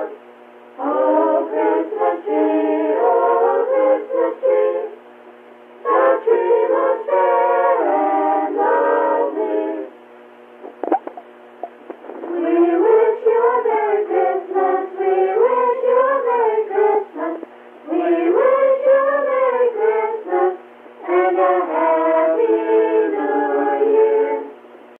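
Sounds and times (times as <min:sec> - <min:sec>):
children singing a carol: 0:00.8 - 0:04.9, 0:05.9 - 0:09.8, 0:12.3 - 0:24.5.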